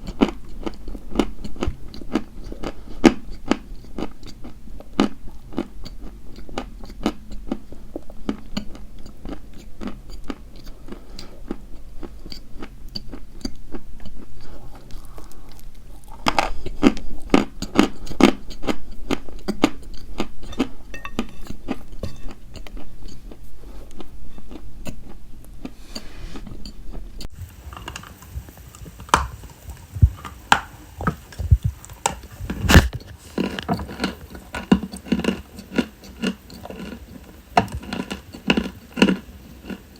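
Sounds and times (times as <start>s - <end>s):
chalk being chewed: 0.0s - 39.9s.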